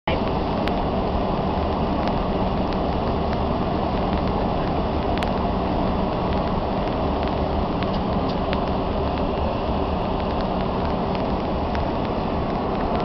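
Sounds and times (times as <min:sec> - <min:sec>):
aircraft cabin engine roar: 0:00.1 - 0:13.0.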